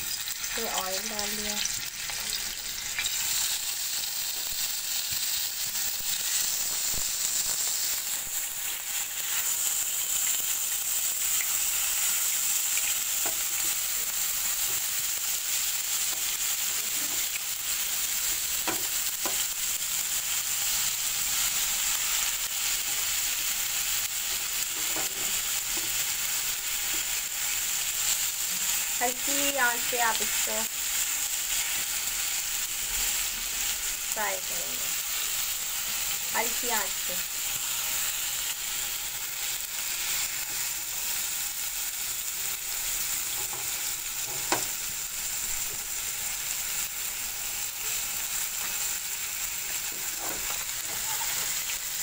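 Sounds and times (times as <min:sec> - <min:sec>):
chicken sizzling in oil: 0:00.0 - 0:52.0.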